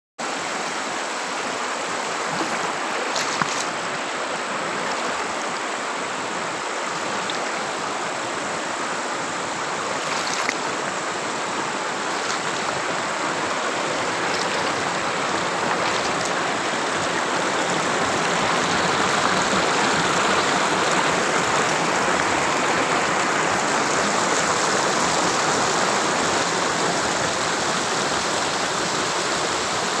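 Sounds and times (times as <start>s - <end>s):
flowing water: 0.2s - 30.0s.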